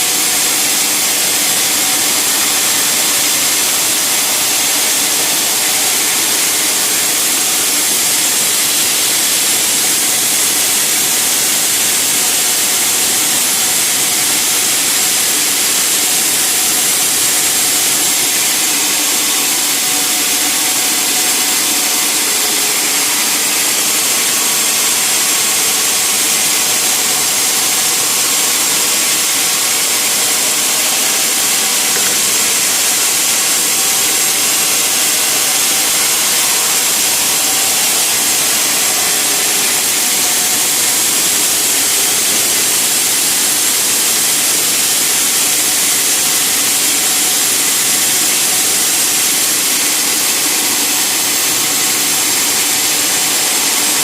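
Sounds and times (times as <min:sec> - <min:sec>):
saw cutting through timber: 0:00.0 - 0:54.0.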